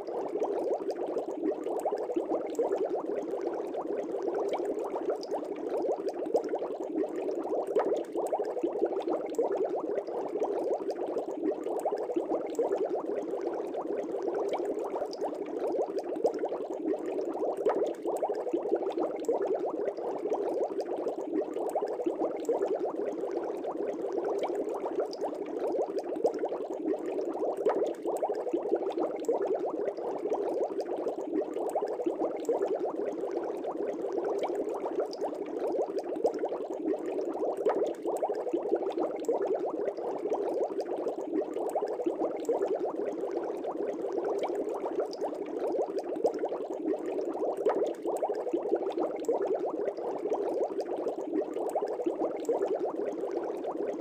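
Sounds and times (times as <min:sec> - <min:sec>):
fish tank air bubbles: 0:00.0 - 0:54.0.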